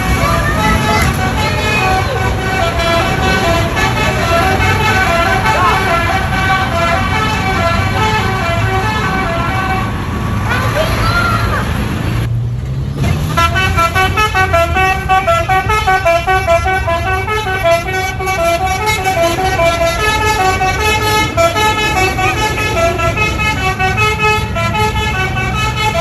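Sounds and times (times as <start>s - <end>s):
bus horn playing melody: 0.0s - 10.2s, 13.3s - 26.0s.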